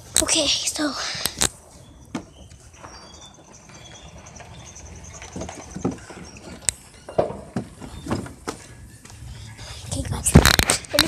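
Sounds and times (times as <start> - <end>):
footsteps: 1.2 - 11.0.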